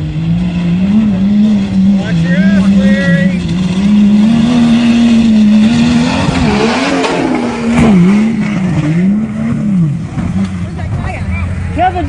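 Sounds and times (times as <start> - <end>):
engine revving hard: 0.0 - 10.9.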